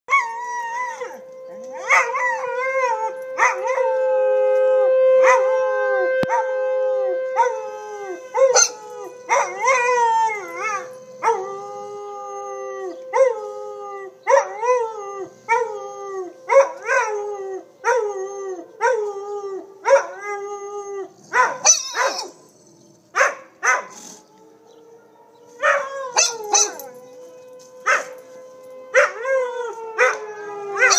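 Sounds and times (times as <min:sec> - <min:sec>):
dogs howling: 0:00.1 - 0:23.9, 0:25.0 - 0:30.9
tornado siren steady tone: 0:00.2 - 0:21.1, 0:24.2 - 0:30.9.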